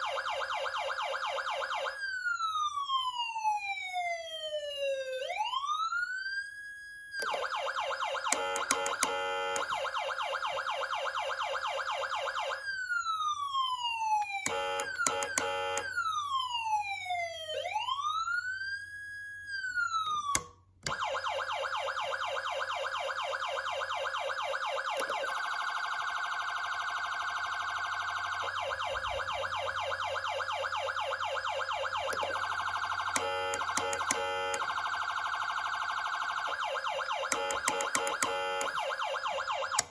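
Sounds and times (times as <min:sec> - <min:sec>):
electronic siren switching tones: 0:00.0 - 0:39.9.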